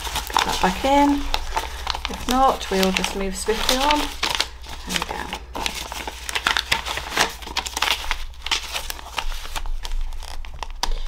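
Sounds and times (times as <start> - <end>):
paper pages rustling and crinkling: 0.0 - 11.0.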